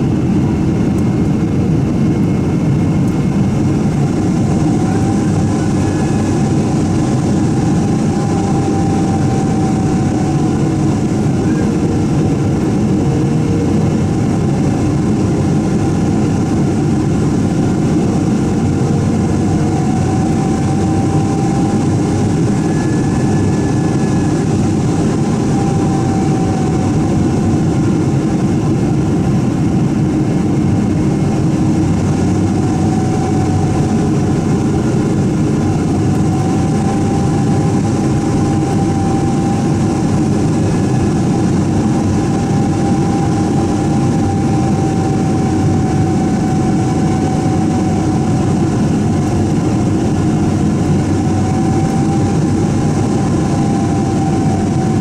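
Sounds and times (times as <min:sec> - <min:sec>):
aircraft cabin engine drone: 0:00.0 - 0:55.0
faint engine whine: 0:00.0 - 0:55.0.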